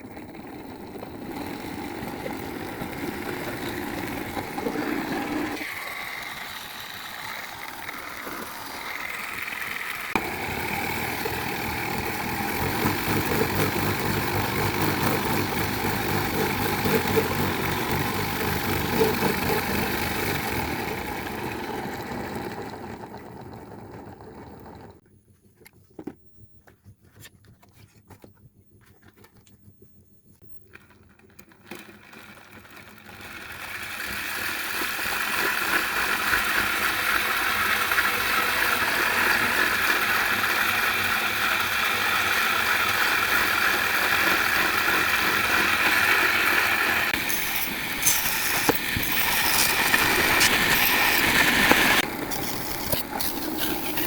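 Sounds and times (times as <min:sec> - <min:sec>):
electric motor running: 0:00.4 - 0:23.3, 0:32.3 - 0:54.0.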